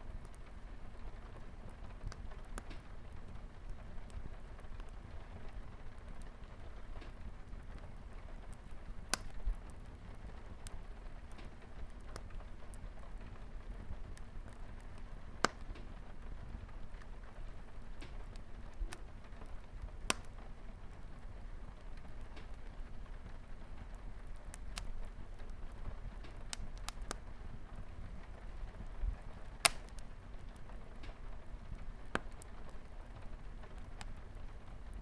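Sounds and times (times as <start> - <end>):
light rain on a window: 0.0 - 35.0
wood fire crackling and popping: 0.0 - 35.0.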